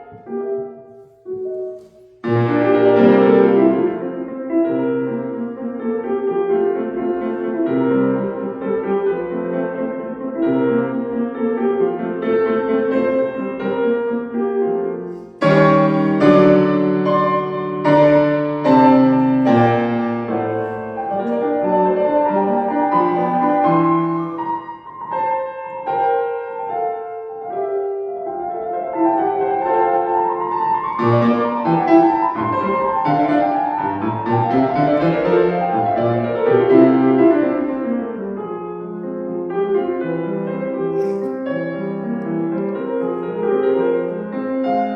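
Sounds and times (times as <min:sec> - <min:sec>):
solo classical piano: 0:00.0 - 0:44.9.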